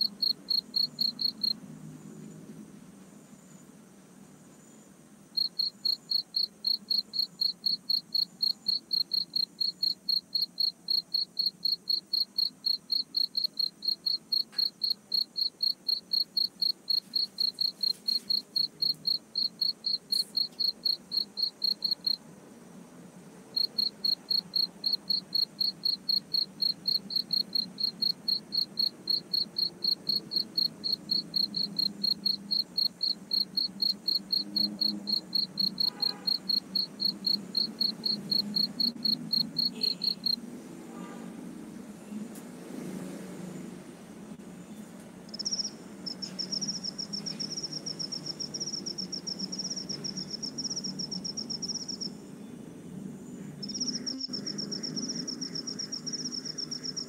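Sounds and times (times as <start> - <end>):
cricket chirping: 0.0 - 41.2, 44.6 - 57.0.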